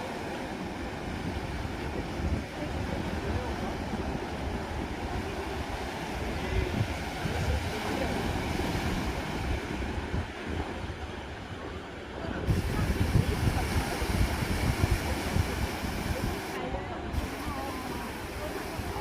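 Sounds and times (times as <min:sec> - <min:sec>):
waves washing onto beach: 0:00.0 - 0:19.0
wind buffeting microphone: 0:00.0 - 0:19.0.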